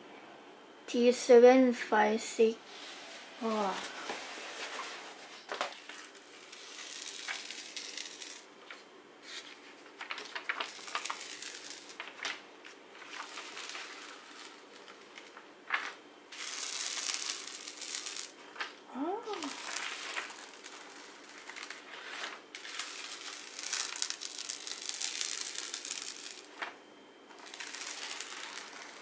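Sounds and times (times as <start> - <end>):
paper rustling and crinkling: 2.7 - 29.0.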